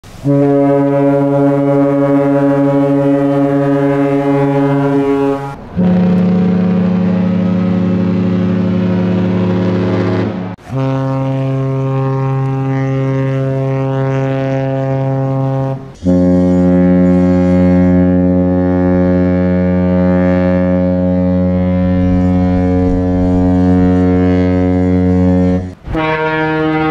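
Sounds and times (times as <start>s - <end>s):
ship horns blasting: 0.0s - 26.9s.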